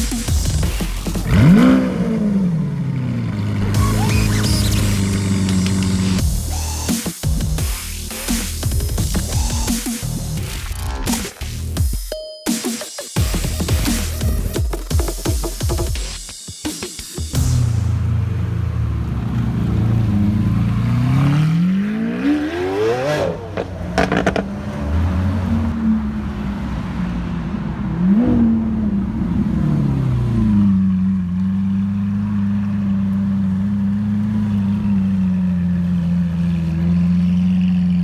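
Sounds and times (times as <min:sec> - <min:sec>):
car engine idling: 0:00.0 - 0:11.9, 0:17.2 - 0:21.8, 0:22.5 - 0:38.0
car engine revving: 0:00.0 - 0:11.9, 0:16.8 - 0:38.0.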